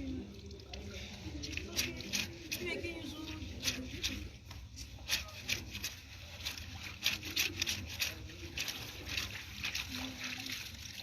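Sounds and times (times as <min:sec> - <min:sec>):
wet clothes scrubbed by hand: 0:00.0 - 0:11.0.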